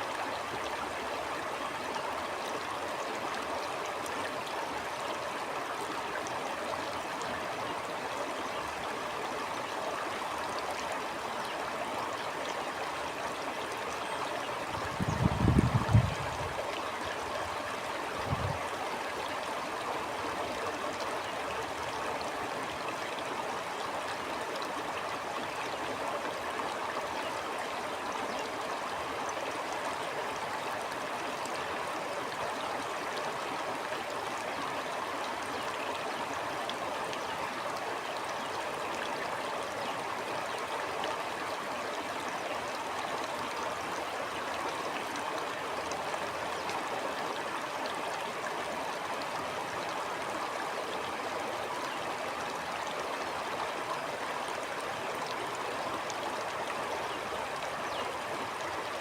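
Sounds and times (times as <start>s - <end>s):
stream water gurgling: 0.0s - 59.0s.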